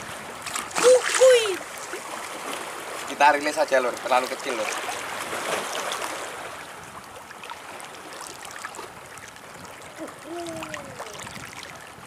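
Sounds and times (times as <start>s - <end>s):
shallow water lapping: 0.0s - 12.0s.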